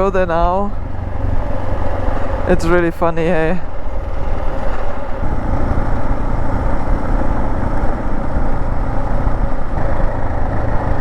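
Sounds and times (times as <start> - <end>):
motorcycle engine rumble: 0.0 - 11.0
wind noise: 0.0 - 11.0.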